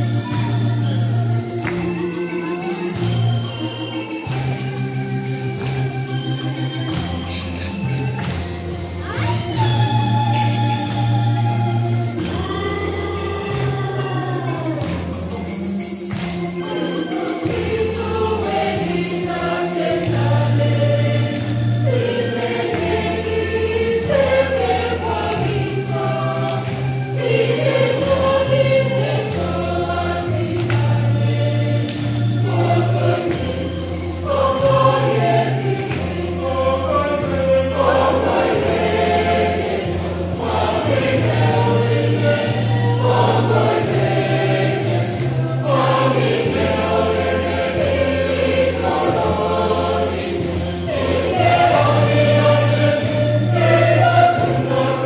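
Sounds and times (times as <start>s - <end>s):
choir singing a hymn: 0.0s - 15.5s, 16.1s - 55.0s.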